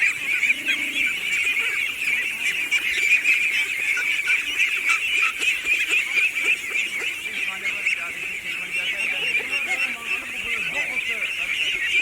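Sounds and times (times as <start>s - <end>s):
poultry calling: 0.0s - 12.0s.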